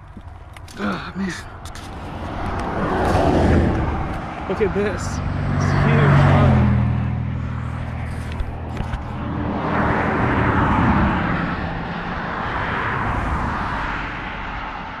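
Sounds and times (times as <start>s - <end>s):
vehicles passing by: 0.0s - 15.0s.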